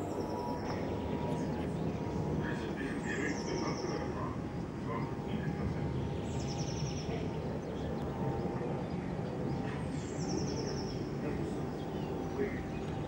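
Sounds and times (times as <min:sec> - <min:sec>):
jet airliner rumble: 0:00.0 - 0:13.0.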